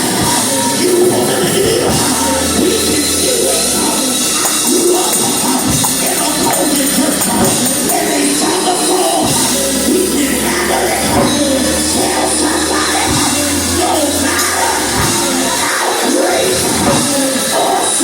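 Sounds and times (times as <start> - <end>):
gospel singing: 0.0 - 18.0
sustained bass notes: 0.0 - 18.0.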